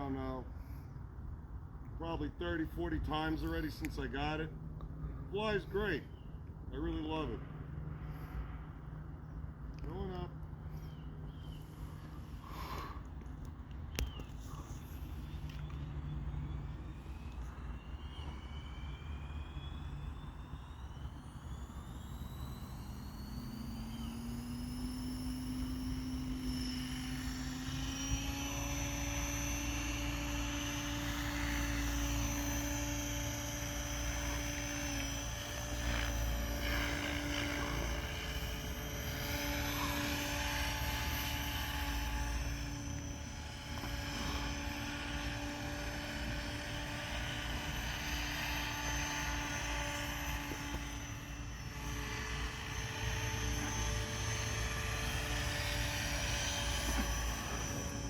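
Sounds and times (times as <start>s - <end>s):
model helicopter rotor whine: 0.0s - 58.0s
low rumble of rotor wash: 0.1s - 58.0s.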